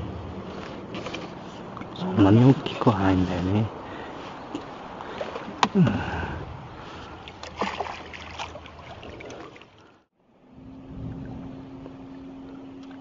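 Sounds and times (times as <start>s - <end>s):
boat motor humming: 0.0s - 13.0s
water lapping: 0.0s - 13.0s.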